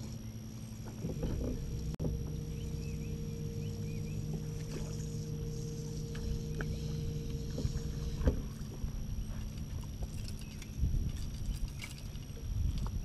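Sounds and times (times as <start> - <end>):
electric trolling motor humming: 0.0 - 12.7.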